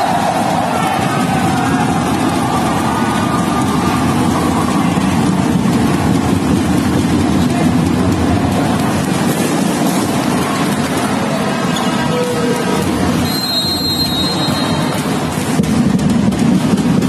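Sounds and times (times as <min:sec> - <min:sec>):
large crowd din indoors: 0:00.0 - 0:17.0.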